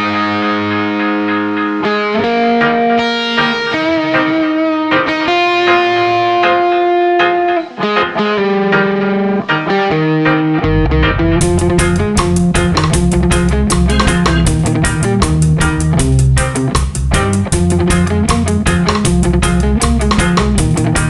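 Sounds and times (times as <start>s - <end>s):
electric guitar lead melody: 0.0s - 21.0s.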